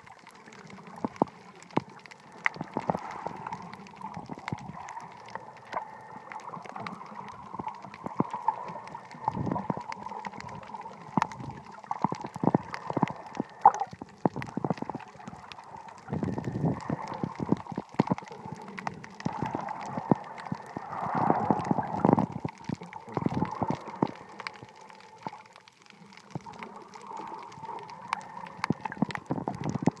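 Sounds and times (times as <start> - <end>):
clicks and crackles: 0.0 - 30.0
water sloshing and gurgling: 0.0 - 30.0.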